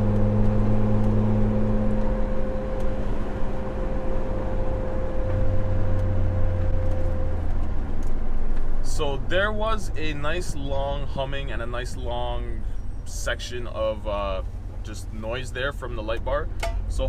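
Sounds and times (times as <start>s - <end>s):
car engine: 0.0s - 17.0s.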